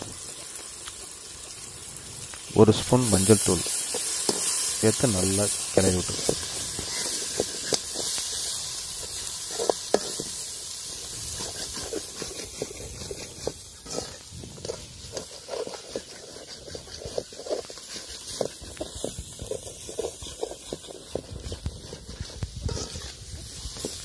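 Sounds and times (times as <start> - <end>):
food sizzling in oil: 0.0 - 24.0
ladle scraping pot: 3.4 - 24.0.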